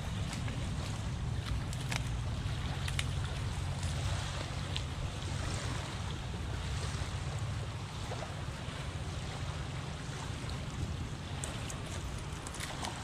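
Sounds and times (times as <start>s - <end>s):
faint hiss of shoreline water: 0.0s - 13.0s
wind buffeting microphone: 0.0s - 13.0s.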